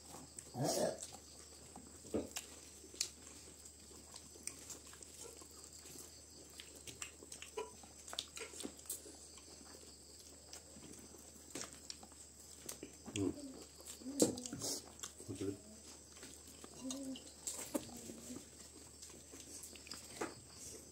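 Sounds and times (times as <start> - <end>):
chewing and lip smacks: 0.3 - 20.8.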